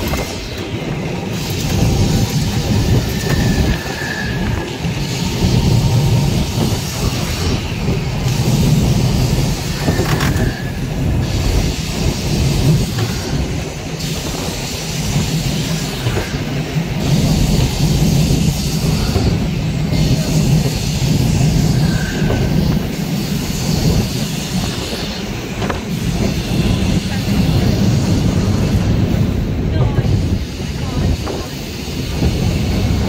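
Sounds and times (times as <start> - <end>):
tram wheels rumbling on rails: 0.0 - 33.0.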